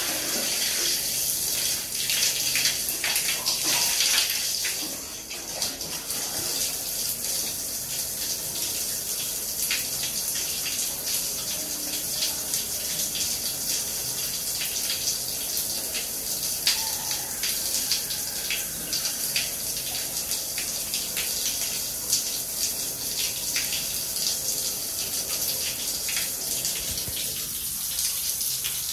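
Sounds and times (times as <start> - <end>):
shower water spraying on tiles: 0.0 - 28.9
splashes and drips: 0.0 - 28.9.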